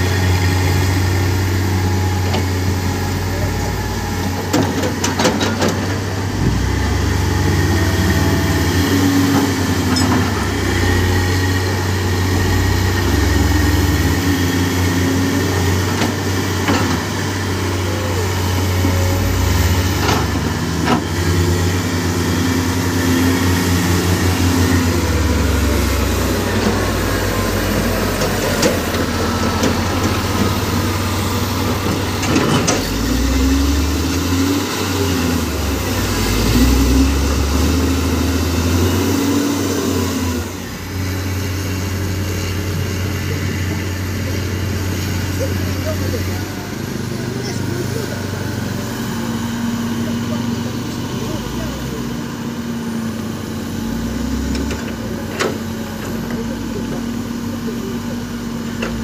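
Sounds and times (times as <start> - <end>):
heavy diesel engines working: 0.0 - 59.0.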